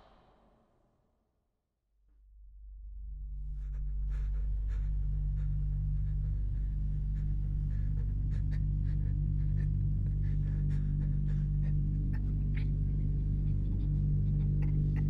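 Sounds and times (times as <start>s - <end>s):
low drone: 2.8s - 15.0s.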